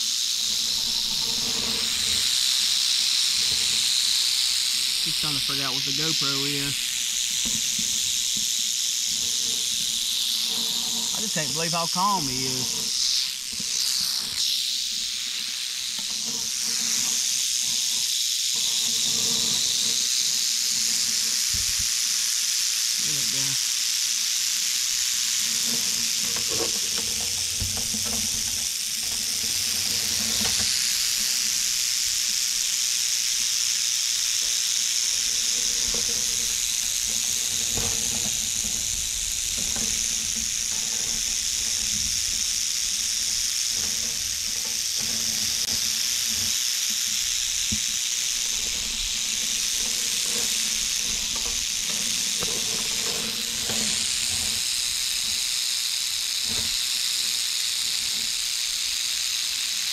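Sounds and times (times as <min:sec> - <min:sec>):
rattlesnake rattle buzzing: 0:00.0 - 0:59.9.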